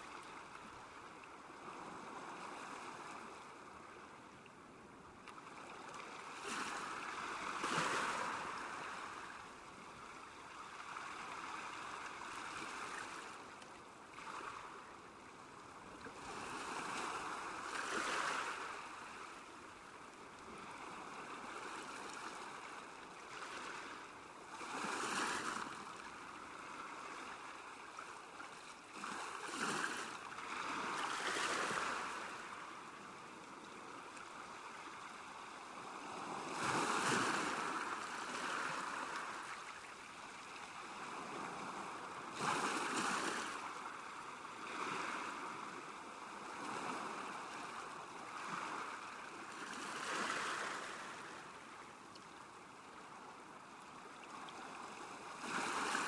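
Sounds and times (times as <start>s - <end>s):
moving water: 0.0s - 56.0s
small waves lapping at shore: 0.0s - 56.0s.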